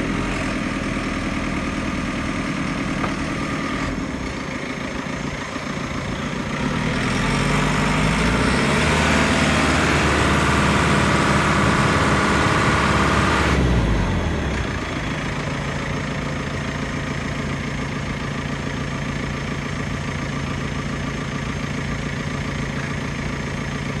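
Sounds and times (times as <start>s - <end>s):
diesel engine idling and revving: 0.0s - 24.0s.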